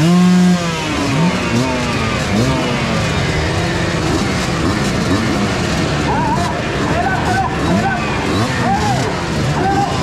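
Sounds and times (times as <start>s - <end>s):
dirt bike engines idling: 0.0s - 10.0s
dirt bike engines revving: 0.0s - 10.0s.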